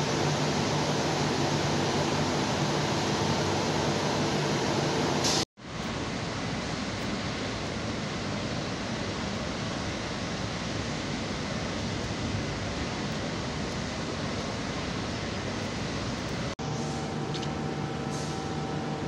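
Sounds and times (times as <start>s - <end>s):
machinery rushing noise: 0.0s - 17.3s.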